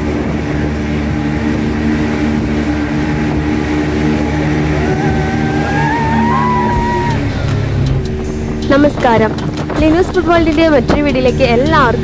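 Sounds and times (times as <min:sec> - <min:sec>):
speedboat engine running: 0:00.0 - 0:12.0
water rushing: 0:00.0 - 0:12.0.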